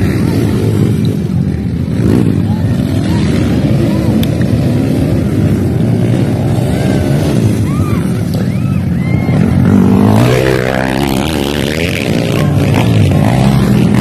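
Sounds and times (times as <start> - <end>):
dirt bike revving: 0.0 - 8.4, 9.0 - 14.0
dirt bike engines running: 0.0 - 14.0.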